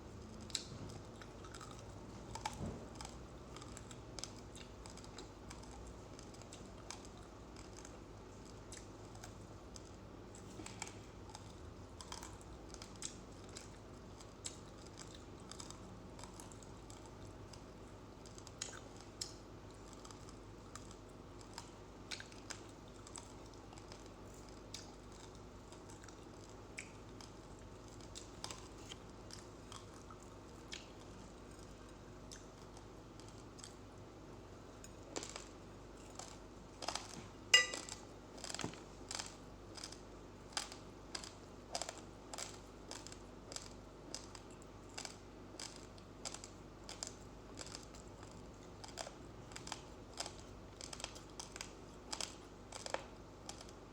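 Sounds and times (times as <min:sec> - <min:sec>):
chewing uncooked rice: 0:00.0 - 0:53.9.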